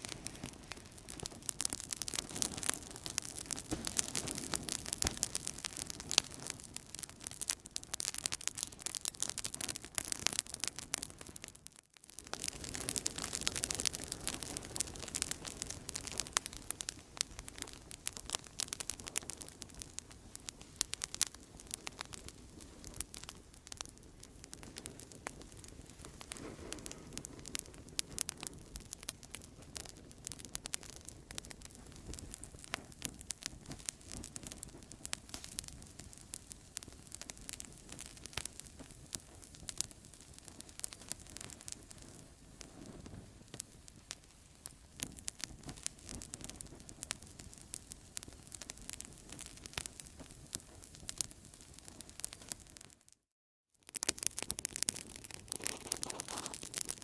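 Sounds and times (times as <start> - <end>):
campfire crackling and popping: 0.0 - 53.2, 53.8 - 57.0.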